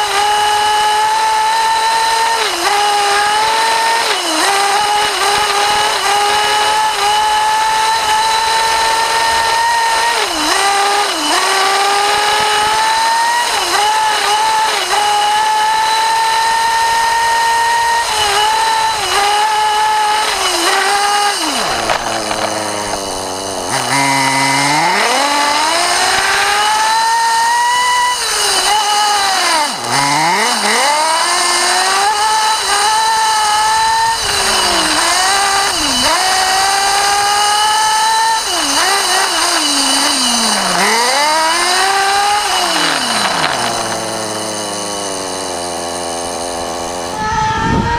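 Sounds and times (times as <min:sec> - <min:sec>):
small engine revving with whine: 0:00.0 - 0:47.9.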